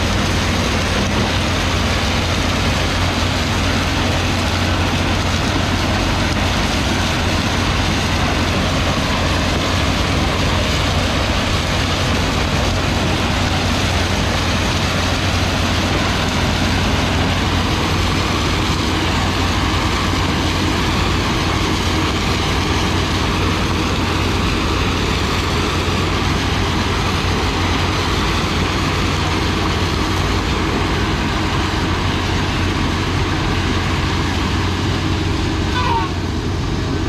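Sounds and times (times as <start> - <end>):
chopped cane pouring into trailer: 0.0 - 35.6
heavy diesel engines running: 0.0 - 37.0.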